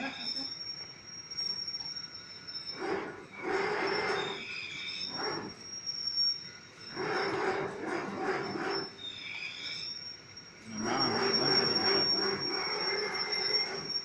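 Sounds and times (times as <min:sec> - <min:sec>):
foot-pedal machine mechanical strokes: 0:00.7 - 0:14.0.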